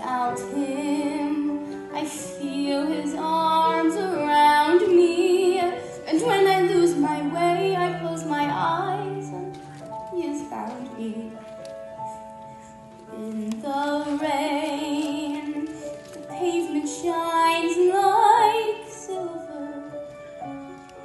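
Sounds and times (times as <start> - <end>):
girl singing a ballad: 0.0 - 11.6, 13.0 - 20.6.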